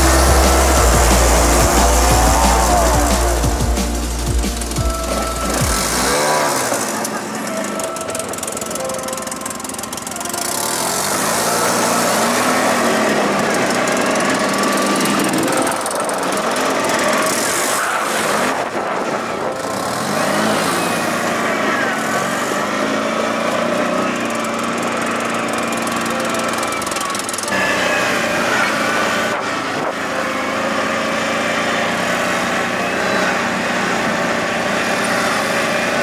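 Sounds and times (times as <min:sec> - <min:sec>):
atv engine running: 0:00.0 - 0:36.0.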